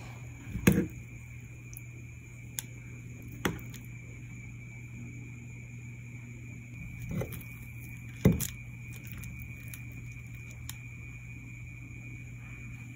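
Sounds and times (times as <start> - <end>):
steady hum: 0.0 - 12.9.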